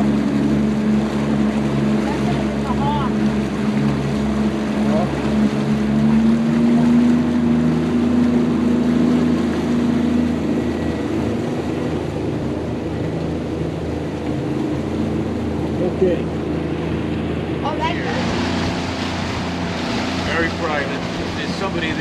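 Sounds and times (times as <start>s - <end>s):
motorboat engine humming: 0.0s - 22.0s
rushing water: 0.0s - 22.0s.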